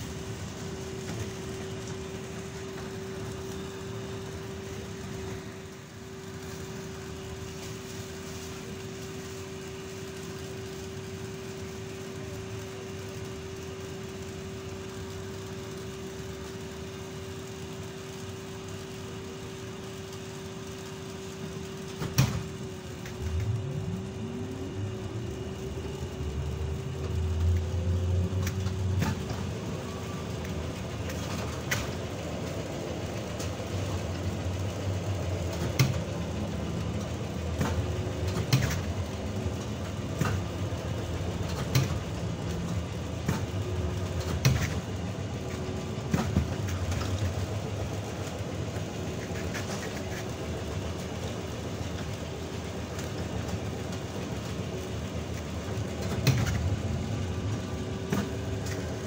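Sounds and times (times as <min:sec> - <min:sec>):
low rumble and hum: 0:00.0 - 0:59.0
trolleybus motor whine: 0:00.0 - 0:59.0.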